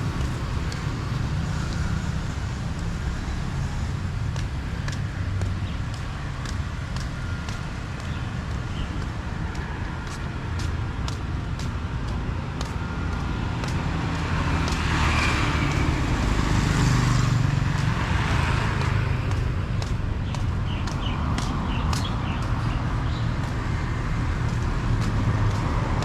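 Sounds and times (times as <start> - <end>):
vehicle passing by: 0.0 - 6.6, 10.6 - 26.0
traffic rumble: 0.0 - 26.0.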